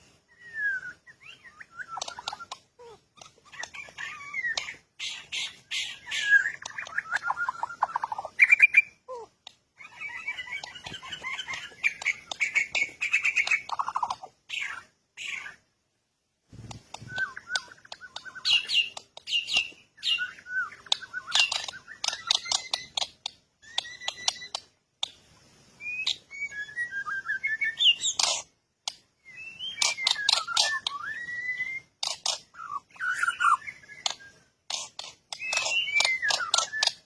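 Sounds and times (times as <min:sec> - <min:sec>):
birds chirping and calling: 0:00.0 - 0:15.7, 0:16.5 - 0:37.0.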